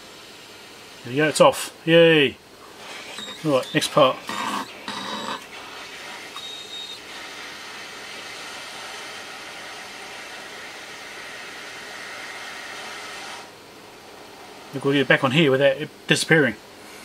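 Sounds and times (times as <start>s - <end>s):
hot air blower hissing: 0.0s - 15.9s, 16.7s - 17.0s.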